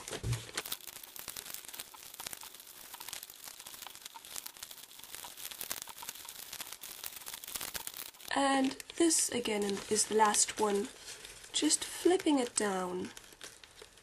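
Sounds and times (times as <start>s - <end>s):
paper crinkling: 0.0s - 14.0s.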